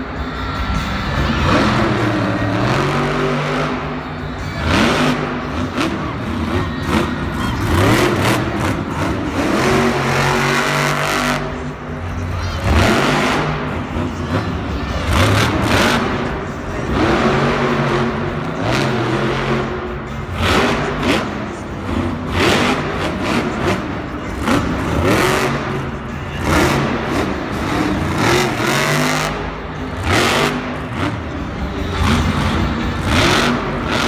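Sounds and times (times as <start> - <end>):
monster truck engines revving: 0.0 - 34.0.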